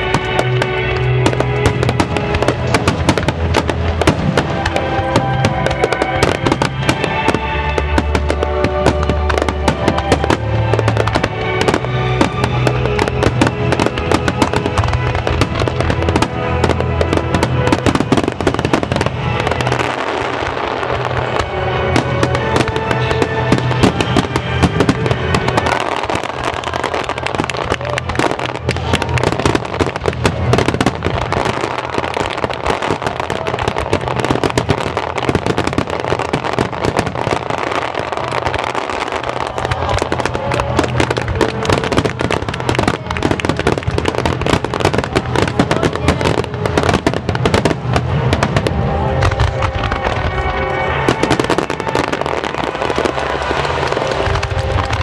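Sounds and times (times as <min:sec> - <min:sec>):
fireworks bursting and crackling: 0:00.0 - 0:55.0
music: 0:00.0 - 0:55.0.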